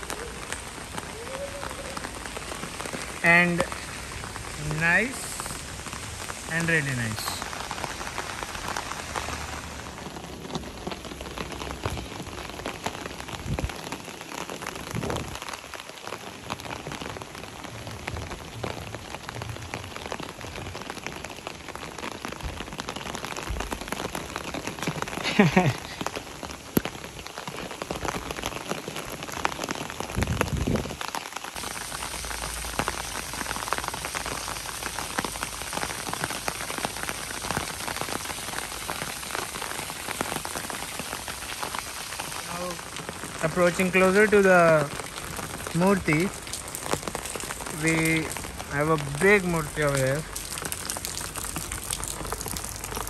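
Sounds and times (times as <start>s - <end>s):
rain pattering on an umbrella: 0.0s - 53.0s.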